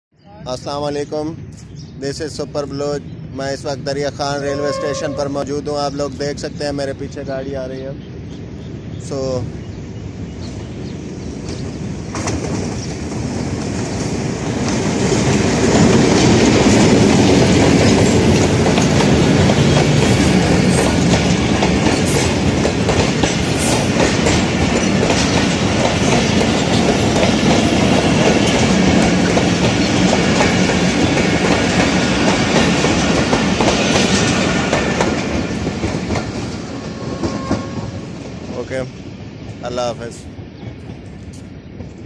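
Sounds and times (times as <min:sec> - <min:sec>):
passenger train rolling past: 0:00.3 - 0:42.0.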